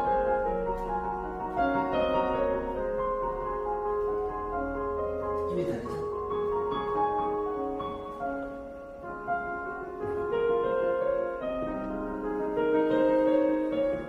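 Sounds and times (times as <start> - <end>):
piano chords and melody: 0.0 - 14.0.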